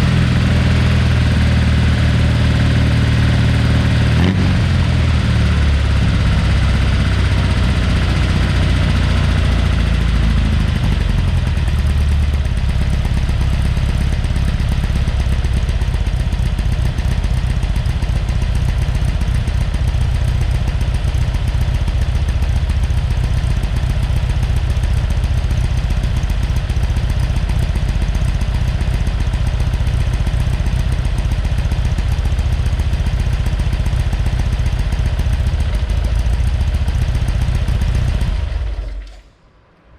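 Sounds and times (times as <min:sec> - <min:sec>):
air-cooled car engine idling: 0:00.0 - 0:39.2.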